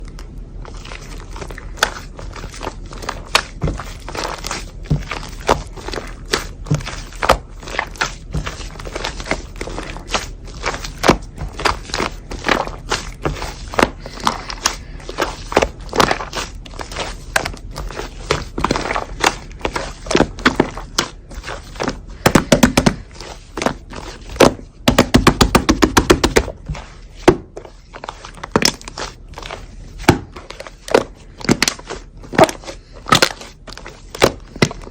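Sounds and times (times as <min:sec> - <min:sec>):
slime crackling fast: 0:00.6 - 0:34.9.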